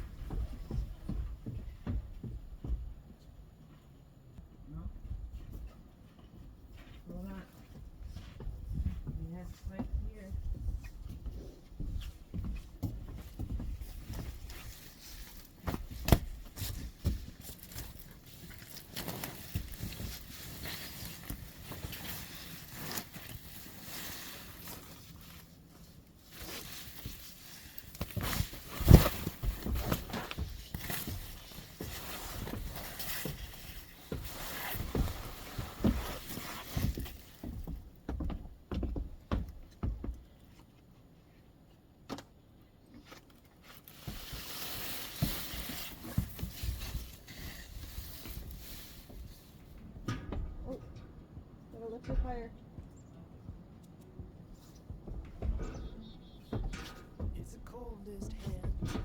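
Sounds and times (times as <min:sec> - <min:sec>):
footsteps: 0:00.0 - 0:40.6, 0:43.0 - 0:59.0.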